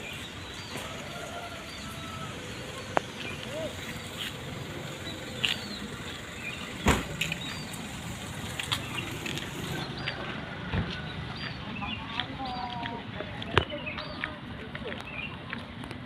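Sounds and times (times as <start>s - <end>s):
passenger train rumbling: 0.0s - 13.2s.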